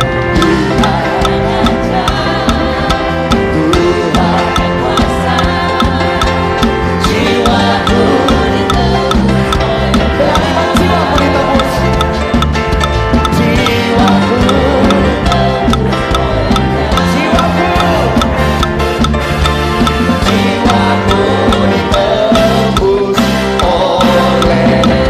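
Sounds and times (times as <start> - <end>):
drum kit beat: 0.0 - 25.0
sustained chords: 0.0 - 25.0.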